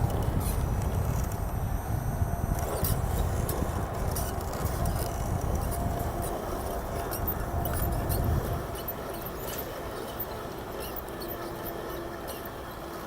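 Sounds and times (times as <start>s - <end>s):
small electric motor whining: 0.0s - 13.0s
ticks and crackles under tyres: 0.0s - 13.0s.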